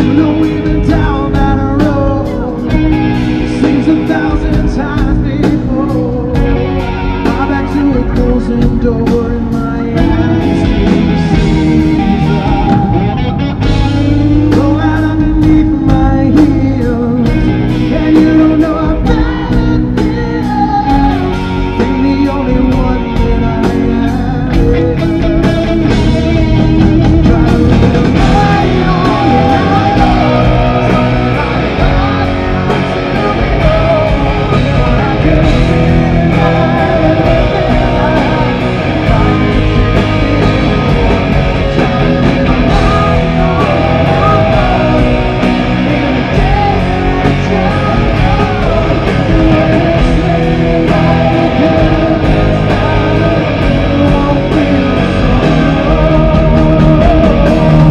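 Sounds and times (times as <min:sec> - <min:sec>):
drums: 0:00.0 - 0:57.9
electric guitar: 0:00.0 - 0:57.9
man singing: 0:00.0 - 0:57.9.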